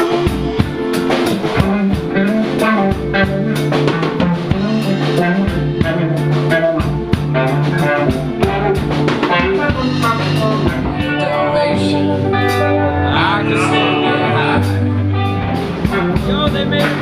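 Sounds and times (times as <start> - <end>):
bass line: 0.0 - 17.0
drum kit beat: 0.0 - 17.0
electric guitar: 0.0 - 17.0.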